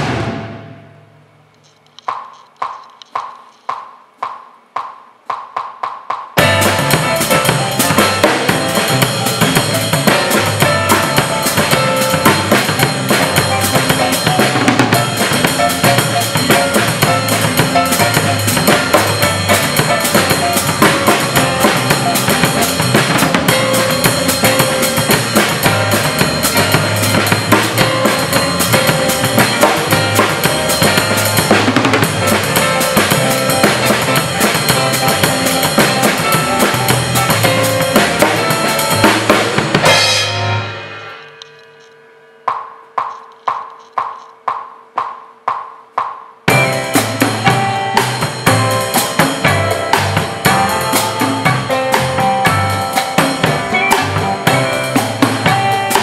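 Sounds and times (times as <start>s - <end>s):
drum kit groove: 0.0s - 41.9s, 42.5s - 56.0s
backing track: 0.0s - 56.0s.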